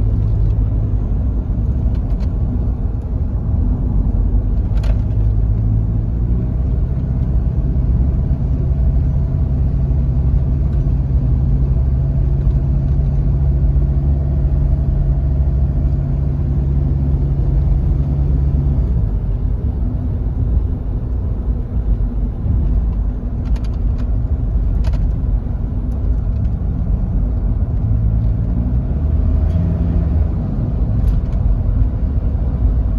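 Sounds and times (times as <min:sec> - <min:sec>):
diesel engine driving: 0:00.0 - 0:32.9.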